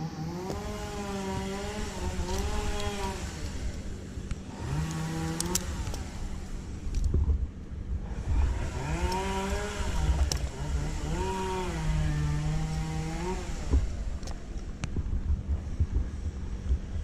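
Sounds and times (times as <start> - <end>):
chainsaw revving: 0.0 - 7.2, 8.0 - 14.8
constant low rumble: 0.0 - 17.0.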